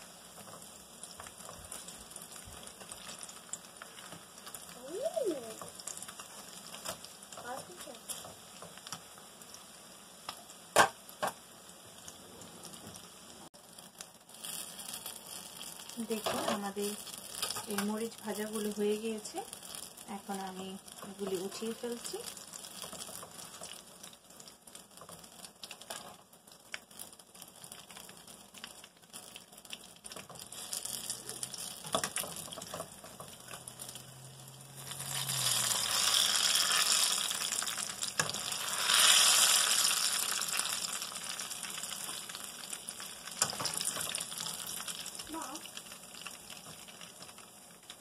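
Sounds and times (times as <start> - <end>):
chillies sizzling in hot oil: 0.0 - 48.0.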